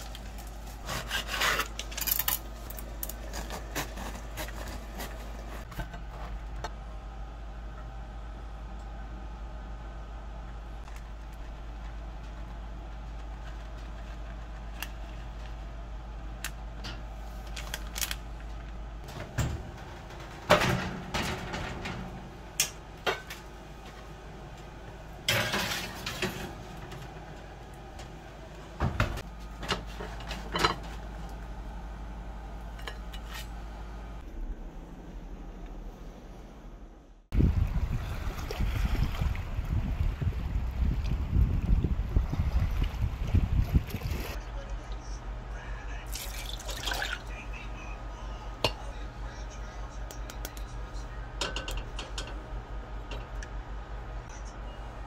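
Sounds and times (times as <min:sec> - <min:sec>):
low hum: 0:01.7 - 0:46.3.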